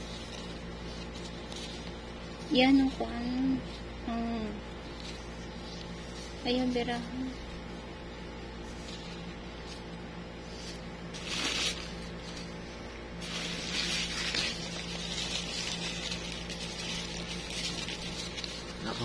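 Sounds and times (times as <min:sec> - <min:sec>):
paper towel rustling: 0:00.0 - 0:19.0.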